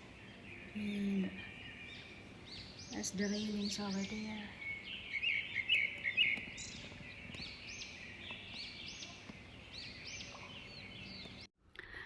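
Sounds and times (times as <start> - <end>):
songbirds chirping: 0.0 - 11.5.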